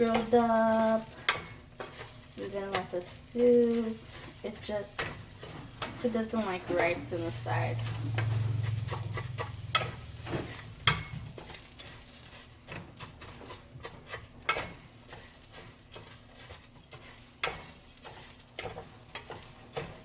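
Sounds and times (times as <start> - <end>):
rice and onion sizzling in oil: 0.0 - 20.0
utensil scraping and knocking pan: 0.0 - 20.0.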